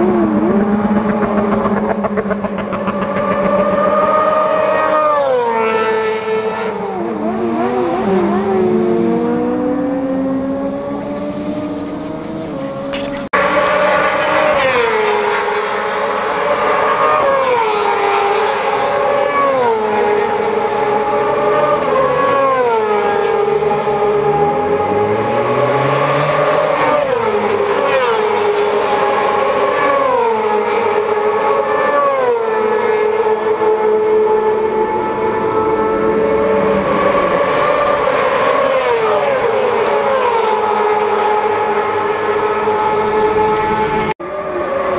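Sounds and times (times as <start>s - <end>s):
racing motorcycles passing: 0.0s - 44.9s.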